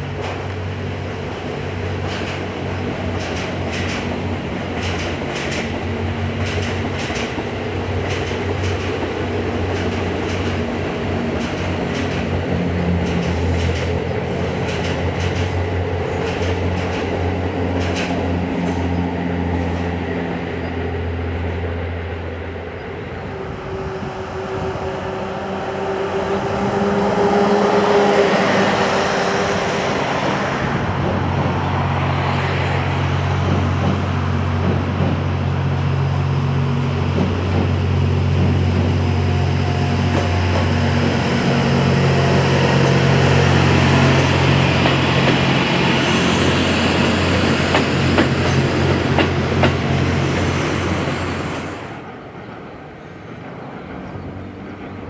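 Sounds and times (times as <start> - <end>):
diesel train engine humming: 0.0 - 55.0.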